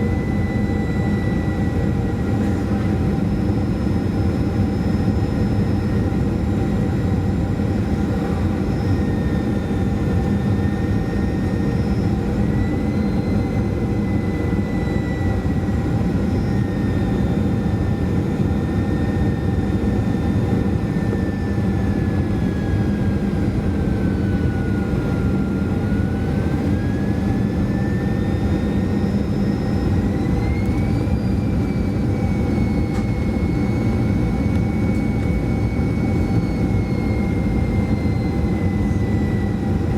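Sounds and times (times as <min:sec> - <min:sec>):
jet engine rumble and whine: 0:00.0 - 0:39.9.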